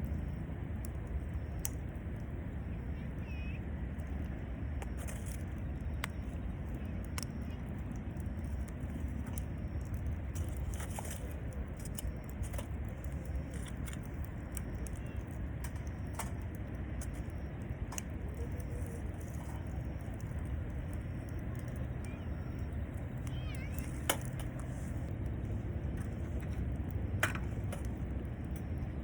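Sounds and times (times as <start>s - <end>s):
campfire crackling: 0.0s - 29.0s
steady low rumble: 0.0s - 29.0s.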